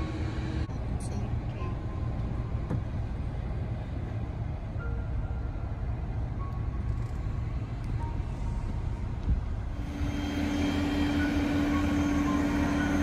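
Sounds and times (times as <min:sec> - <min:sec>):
low noisy rumble: 0:00.0 - 0:13.0
truck engine droning: 0:00.0 - 0:13.0.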